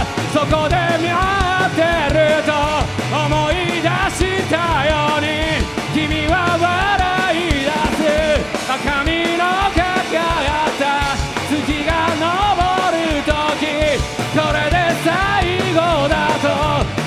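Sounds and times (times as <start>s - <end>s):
punk rock band playing live: 0.0s - 17.0s.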